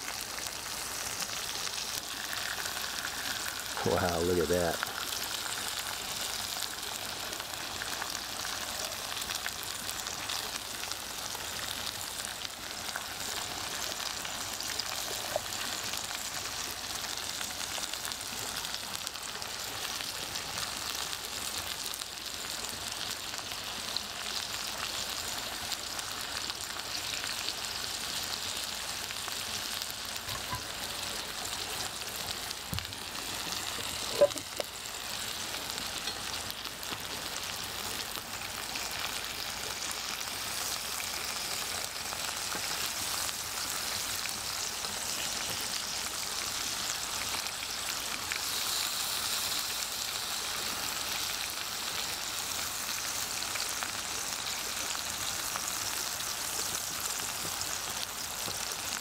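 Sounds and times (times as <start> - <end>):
food sizzling in pan: 0.0 - 59.0.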